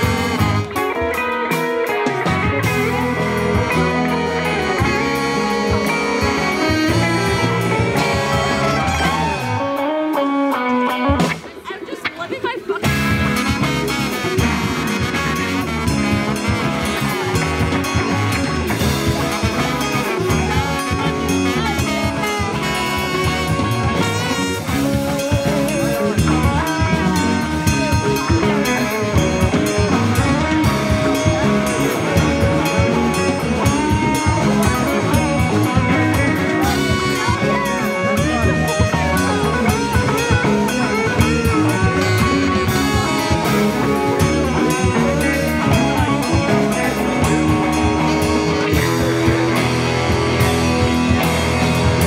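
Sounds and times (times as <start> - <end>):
bass guitar: 0.0 - 52.0
drum kit: 0.0 - 52.0
electric guitars: 0.0 - 52.0.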